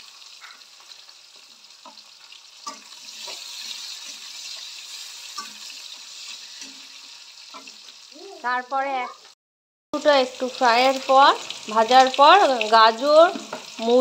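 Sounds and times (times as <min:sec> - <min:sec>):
vegetables sizzling in hot oil: 0:00.0 - 0:09.4, 0:10.0 - 0:14.0.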